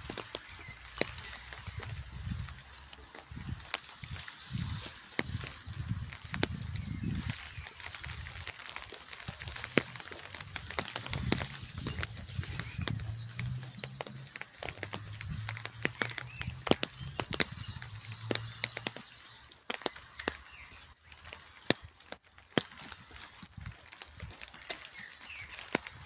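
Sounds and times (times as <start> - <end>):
raindrops tapping: 0.0 - 26.0.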